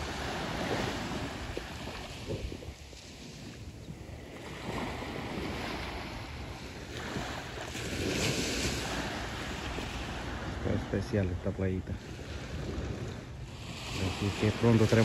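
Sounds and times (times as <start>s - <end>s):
gentle waves washing on beach: 0.0s - 15.0s
wind rumbling on microphone: 0.0s - 15.0s.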